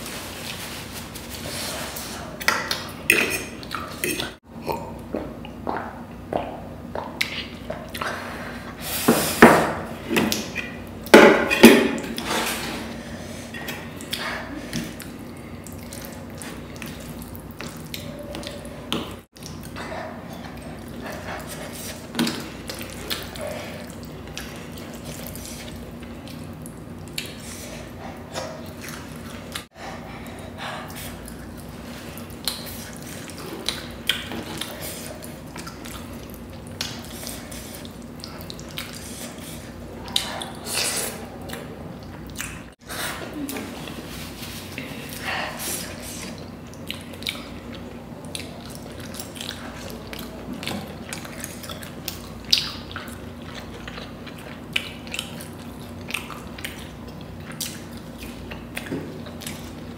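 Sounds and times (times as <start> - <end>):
person chewing and slurping: 0.0 - 59.9.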